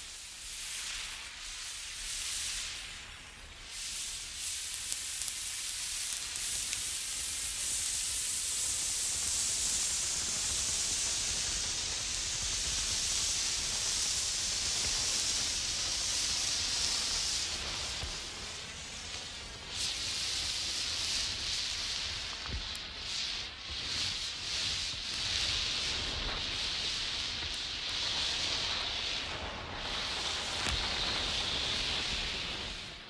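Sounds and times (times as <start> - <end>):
road flare burning with hiss: 0.0 - 33.0.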